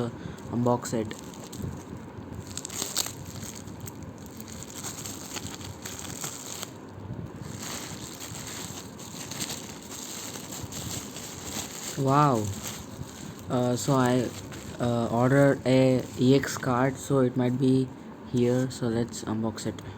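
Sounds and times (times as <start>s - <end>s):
package crinkling and rustling: 0.0s - 17.6s
small clicks and crackles: 0.3s - 16.3s.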